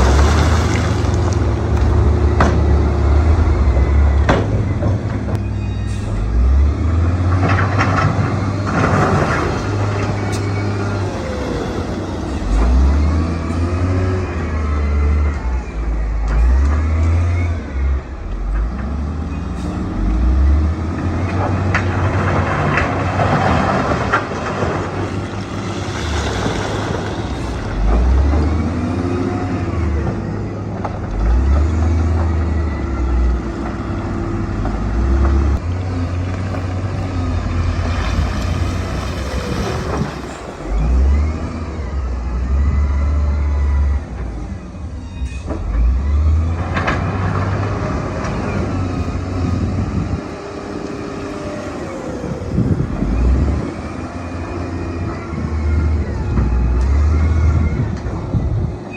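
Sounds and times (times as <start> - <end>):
heavy diesel machinery engine: 0.0 - 58.9.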